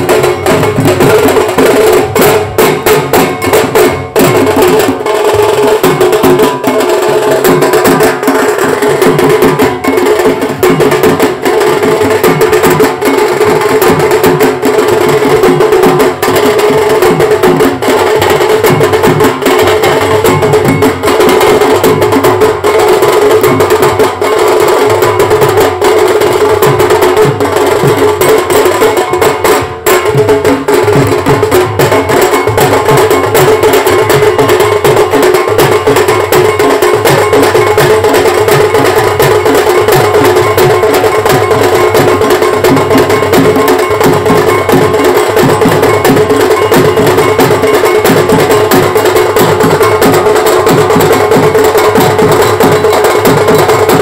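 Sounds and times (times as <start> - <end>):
rapid drum strokes: 0.0 - 54.0.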